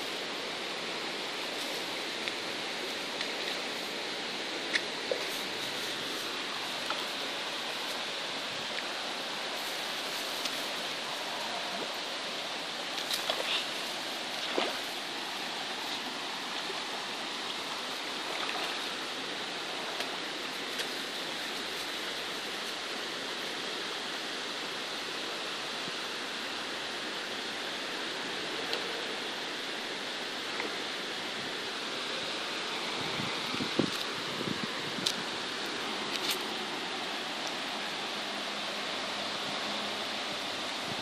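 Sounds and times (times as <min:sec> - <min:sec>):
water rushing and splashing: 0:00.0 - 0:41.0.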